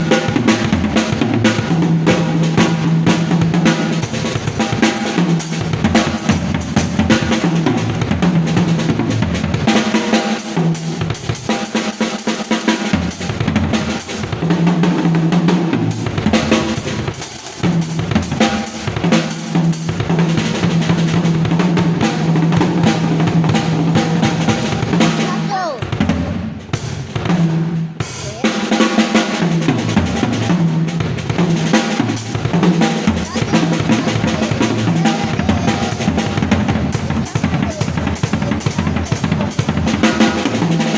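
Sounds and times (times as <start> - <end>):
drum kit groove: 0.0 - 40.9.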